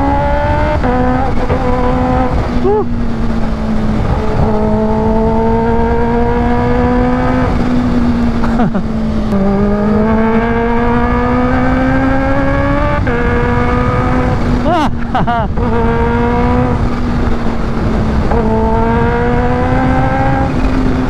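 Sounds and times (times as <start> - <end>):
motorcycle engine accelerating: 0.0 - 21.0
wind noise on microphone: 0.0 - 21.0.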